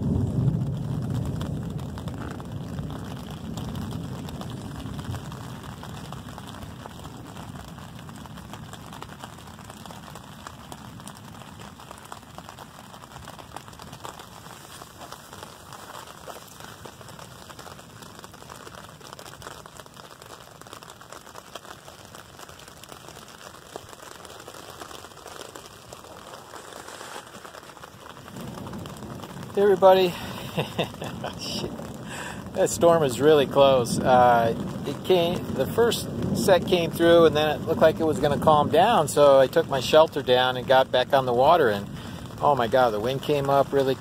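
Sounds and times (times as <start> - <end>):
heavy rain on a tarp: 0.0 - 44.0.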